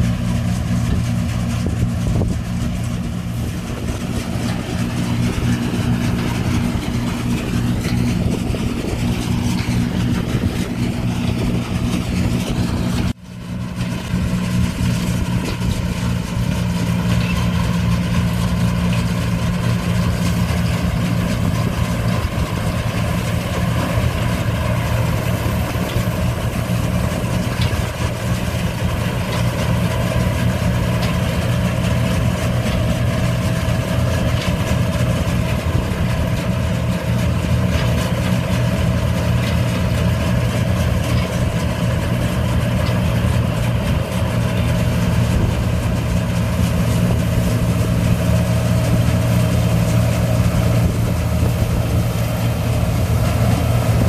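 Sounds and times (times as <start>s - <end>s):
combine engine drone: 0.0s - 54.0s.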